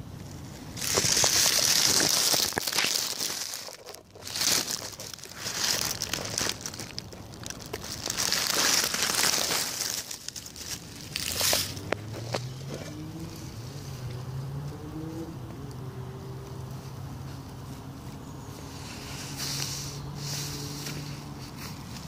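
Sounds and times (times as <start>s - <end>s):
dry leaves rustling: 0.0s - 15.1s, 15.8s - 22.0s.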